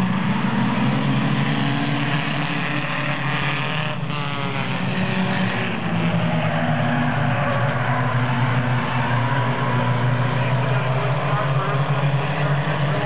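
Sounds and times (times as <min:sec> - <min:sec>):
cars passing close by: 0:00.0 - 0:13.0
race car engines at full throttle: 0:00.0 - 0:13.0.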